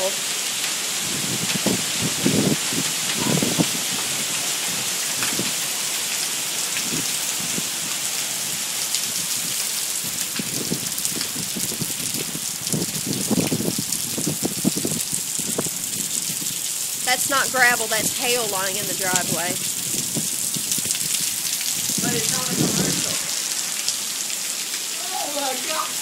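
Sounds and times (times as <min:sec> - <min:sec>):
hailstones ticking: 0:00.0 - 0:08.1, 0:08.8 - 0:26.0
rain patter: 0:00.0 - 0:26.0.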